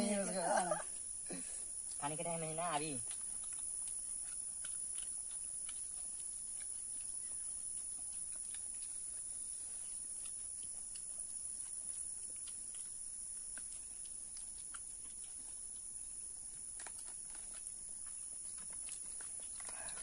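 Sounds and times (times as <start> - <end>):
hands eating rice off leaves: 0.0 - 20.0.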